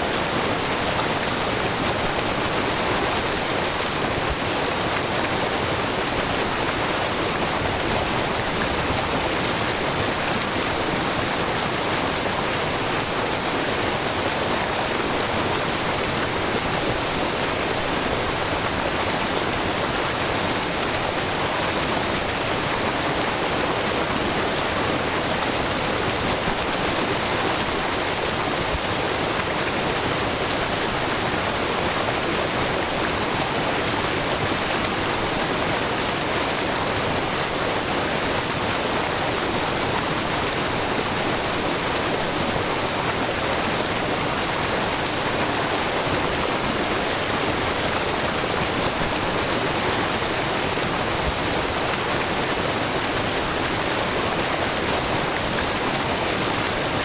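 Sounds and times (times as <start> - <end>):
waterfall rushing over rock: 0.0 - 57.0.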